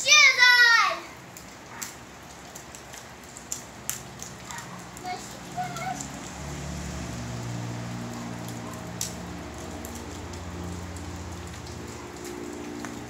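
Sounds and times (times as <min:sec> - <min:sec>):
rain on pavement and roofs: 0:00.0 - 0:13.0.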